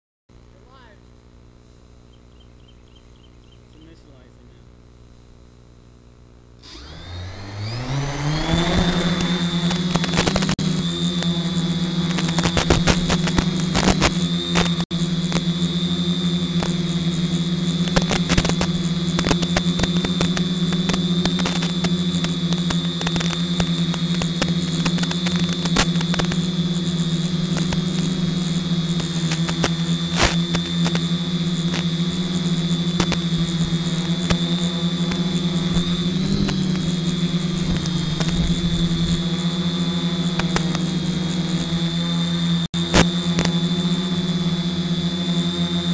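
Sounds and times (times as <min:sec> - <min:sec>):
drone motors buzzing: 0:01.6 - 0:45.9.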